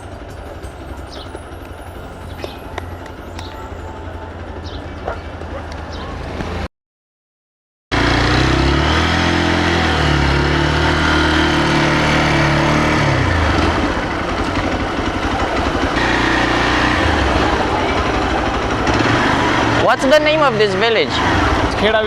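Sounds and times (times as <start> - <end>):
motorcycle engine running: 0.0 - 6.7, 7.9 - 22.0.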